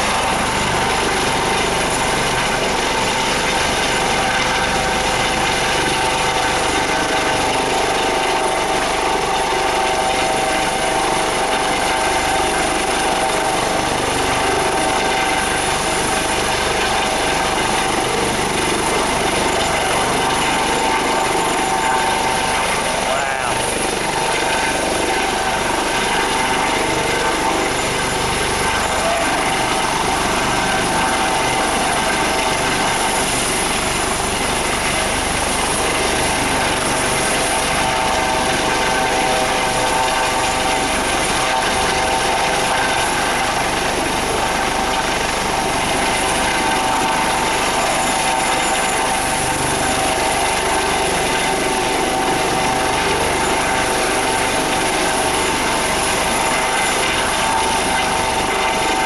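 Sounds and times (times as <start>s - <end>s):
helicopter rotor and turbine noise: 0.0s - 59.0s
steady whine: 0.0s - 59.0s.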